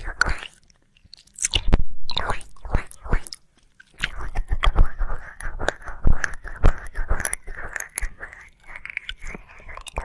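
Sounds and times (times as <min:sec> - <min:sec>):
wet tongue and lip smacks: 0:00.0 - 0:10.0.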